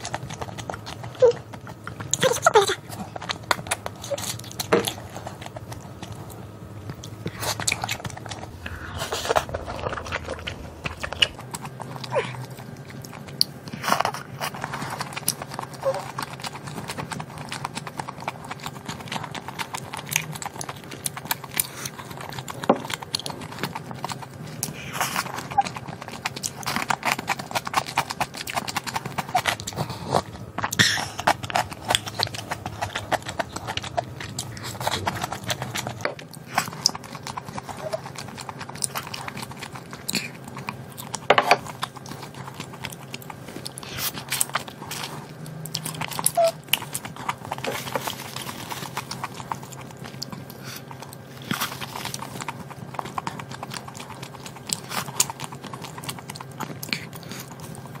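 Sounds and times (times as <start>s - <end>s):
chewing and lip-smacking: 0.0s - 58.0s.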